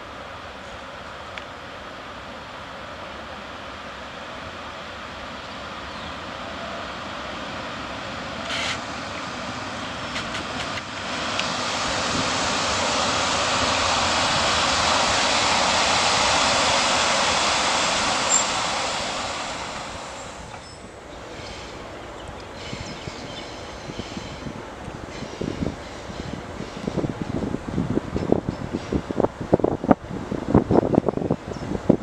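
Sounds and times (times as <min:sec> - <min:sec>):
locomotive rail running noise: 0:00.0 - 0:32.0.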